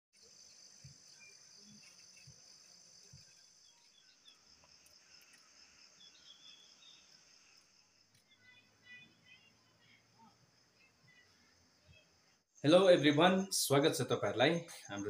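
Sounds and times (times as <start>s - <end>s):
insect chorus trilling: 0.2s - 15.0s.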